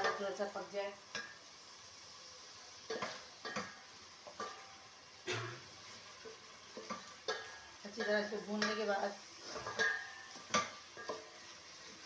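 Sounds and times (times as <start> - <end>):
sizzling in oil: 0.0 - 12.0.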